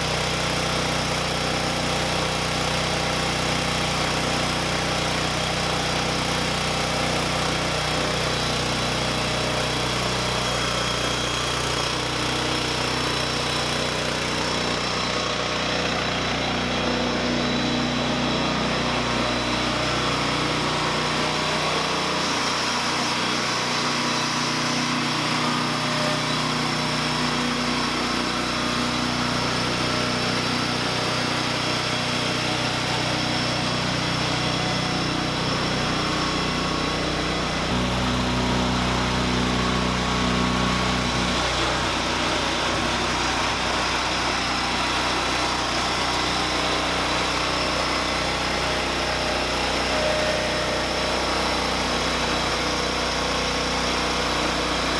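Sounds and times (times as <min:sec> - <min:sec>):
lawn tractor engine running: 0:00.0 - 0:54.9.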